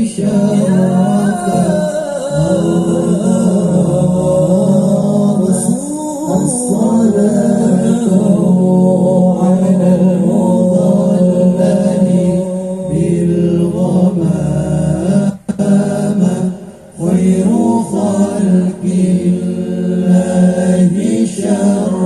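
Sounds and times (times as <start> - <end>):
chant-like singing: 0.0 - 22.0.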